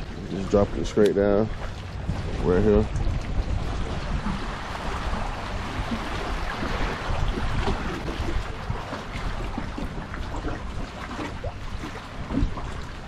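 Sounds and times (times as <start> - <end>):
water lapping and sloshing: 0.0 - 13.0
wind buffeting microphone: 0.0 - 13.0.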